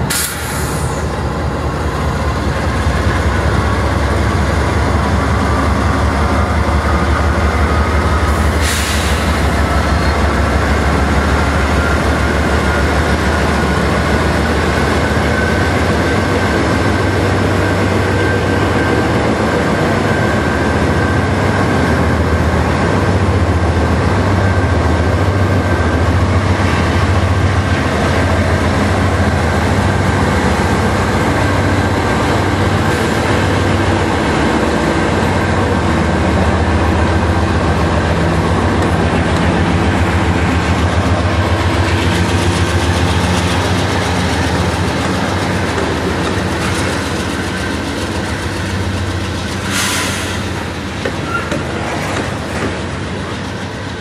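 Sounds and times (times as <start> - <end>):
diesel locomotive rumble: 0.0 - 54.0
train wheels on rails: 0.0 - 54.0.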